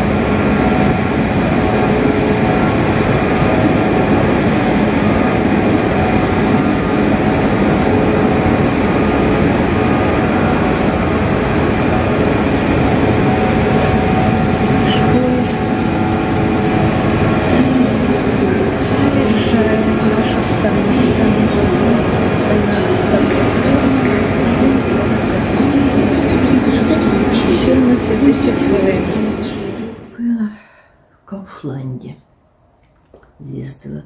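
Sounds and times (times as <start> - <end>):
train running rumble: 0.0 - 30.2
machinery hum: 0.0 - 34.0.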